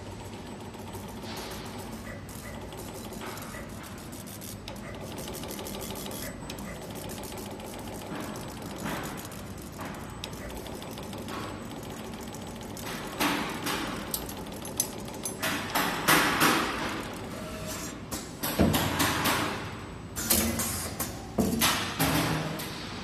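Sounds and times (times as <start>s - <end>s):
sharp mechanical clacks and knocks: 0.0s - 23.0s.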